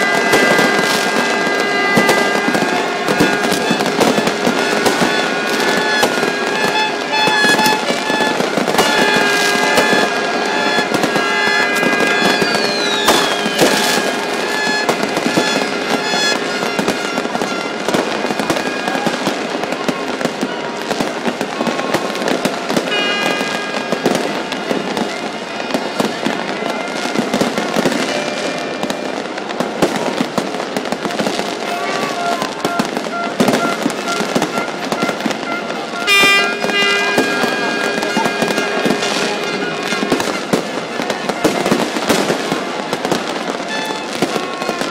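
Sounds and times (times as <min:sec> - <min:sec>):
fireworks crackling and banging: 0:00.0 - 0:44.9
horn-like tones: 0:00.0 - 0:44.9.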